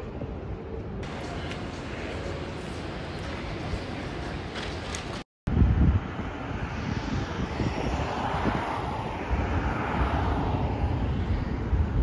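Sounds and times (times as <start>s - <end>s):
low traffic rumble: 0.0s - 12.0s
traffic engine rush: 0.0s - 12.0s.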